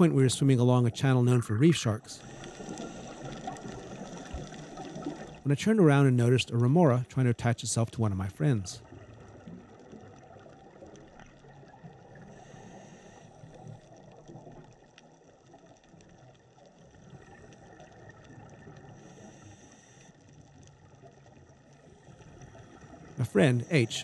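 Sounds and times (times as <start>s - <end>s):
faint underwater wash: 0.0s - 5.5s, 8.0s - 24.0s.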